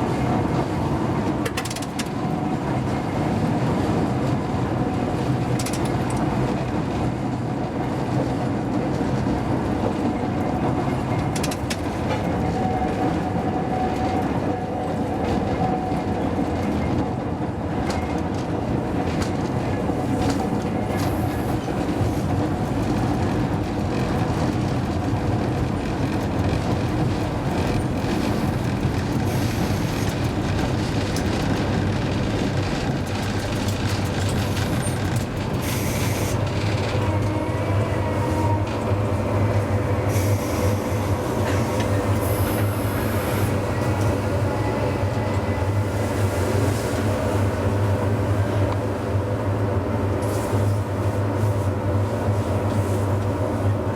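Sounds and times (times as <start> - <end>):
tram motor rumble and hum: 0.0 - 53.9
wheels clacking on rails: 0.0 - 53.9.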